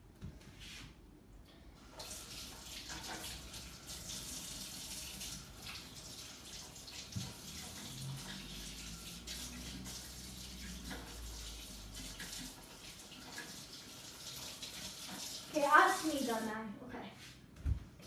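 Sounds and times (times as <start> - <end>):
tap water running into sink: 1.8 - 16.5.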